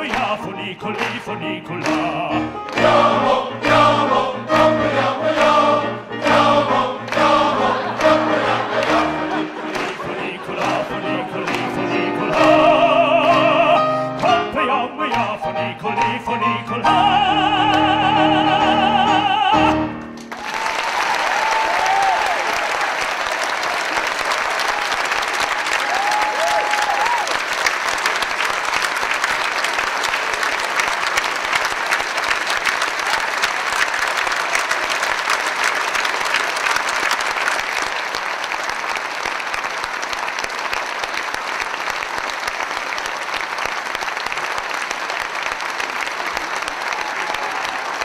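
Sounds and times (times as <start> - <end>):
concert audience applauding: 0.0 - 15.3, 17.5 - 48.0.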